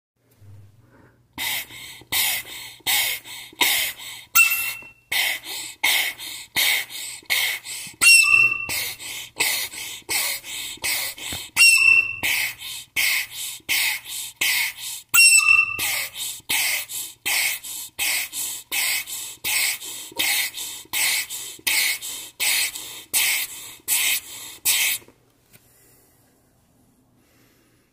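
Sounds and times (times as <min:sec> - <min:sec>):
recorder breathy puffs: 0:00.6 - 0:15.1, 0:15.8 - 0:26.4.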